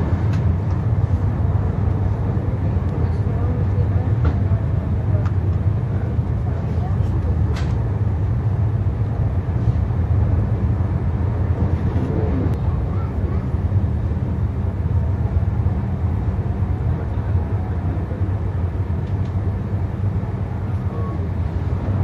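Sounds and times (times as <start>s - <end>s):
train rumbling from inside coach: 0.0s - 22.0s.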